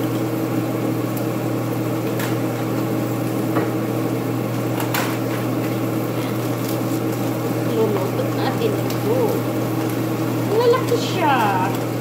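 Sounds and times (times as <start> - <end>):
appliance motor hum: 0.0 - 12.0.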